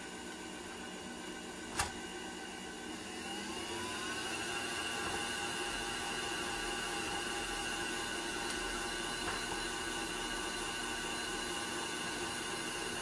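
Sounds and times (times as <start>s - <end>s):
stand mixer motor running: 0.0s - 13.0s.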